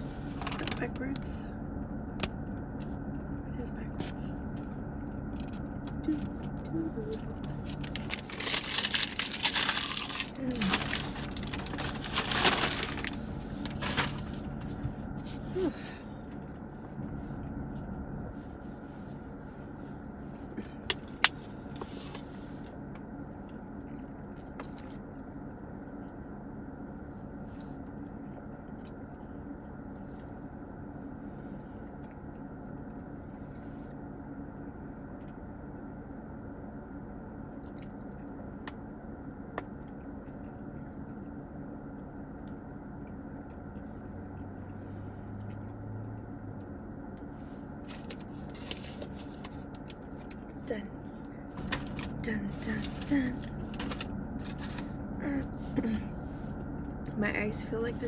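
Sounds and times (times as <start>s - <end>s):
car engine hum inside cabin: 0.0s - 58.0s.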